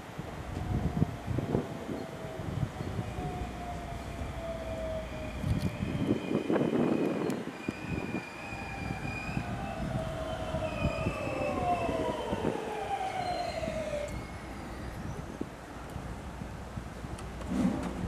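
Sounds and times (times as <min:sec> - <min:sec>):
low train rumble: 0:00.0 - 0:18.0
electric train braking whine: 0:00.6 - 0:15.5.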